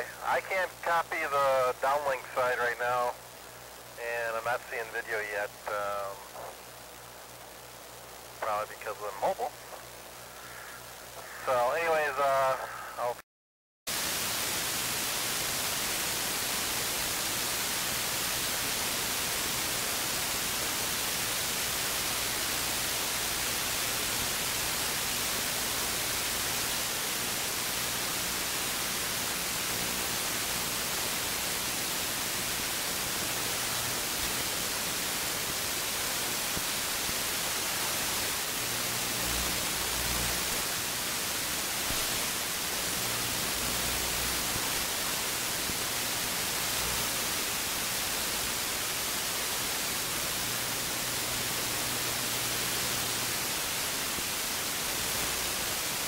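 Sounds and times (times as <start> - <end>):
radio static hiss: 0.0 - 13.3, 13.9 - 56.0.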